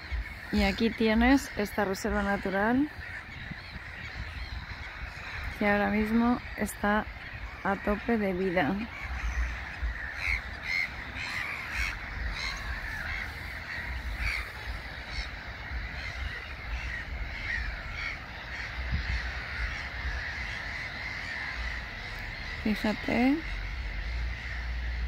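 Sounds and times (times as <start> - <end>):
gulls calling: 0.0 - 25.0.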